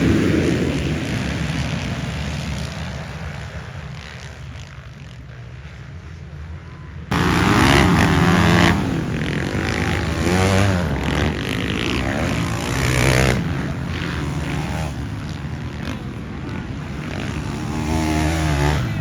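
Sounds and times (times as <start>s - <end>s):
motocross engines revving: 0.0s - 5.6s, 7.1s - 19.0s.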